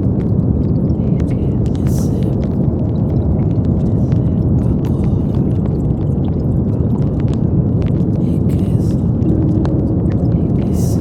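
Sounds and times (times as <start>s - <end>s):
brown noise: 0.0s - 11.0s.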